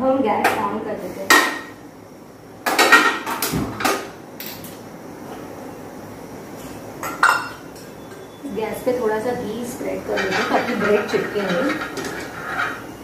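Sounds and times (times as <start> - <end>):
gas burner hissing: 0.7 - 13.0.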